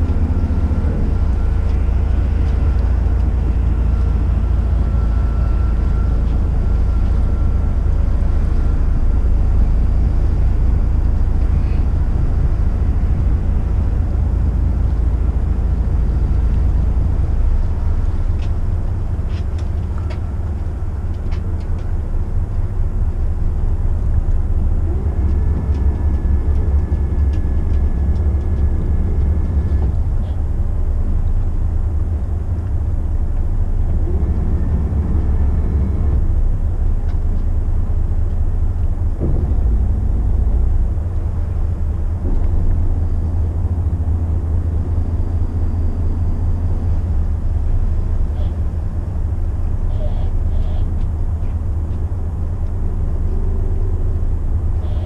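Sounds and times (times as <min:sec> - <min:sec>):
boat diesel engines rumbling: 0:00.0 - 0:55.0.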